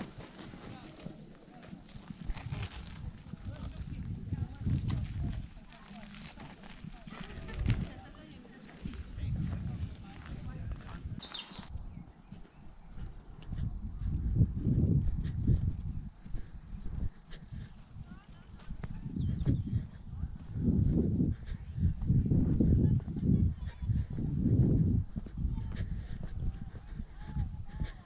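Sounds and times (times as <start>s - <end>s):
wind buffeting microphone: 0.0s - 28.0s
crickets trilling: 0.1s - 8.3s, 8.9s - 28.0s.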